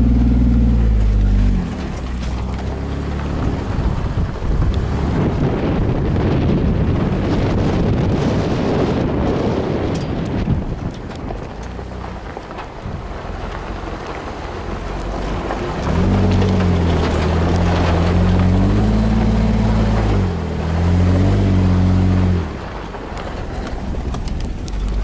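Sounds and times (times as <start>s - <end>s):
off-road vehicle engine revving: 0.0s - 10.7s, 13.0s - 25.0s
rumble of driving over rough ground: 0.0s - 25.0s.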